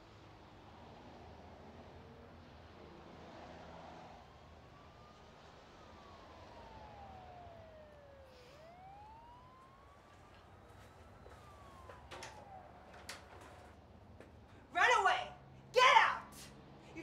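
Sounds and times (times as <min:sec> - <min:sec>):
faint siren wailing: 0:00.0 - 0:17.0.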